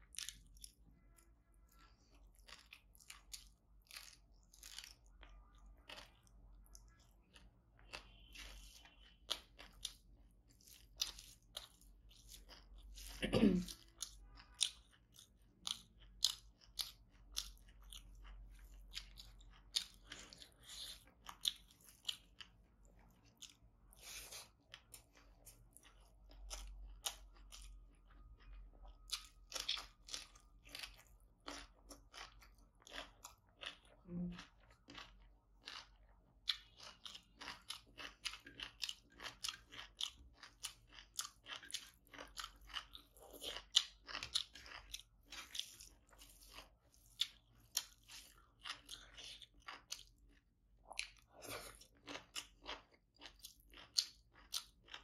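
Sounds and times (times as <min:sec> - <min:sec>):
crunchy chewing of fried fish: 0:00.0 - 0:55.0.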